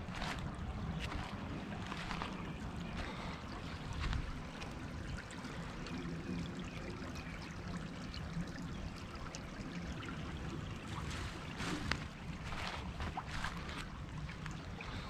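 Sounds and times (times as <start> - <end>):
creek trickling over stones: 0.0 - 15.0.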